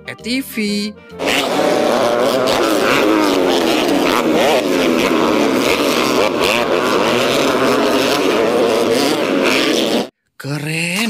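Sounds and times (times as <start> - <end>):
quad bike engines revving: 1.2 - 10.1.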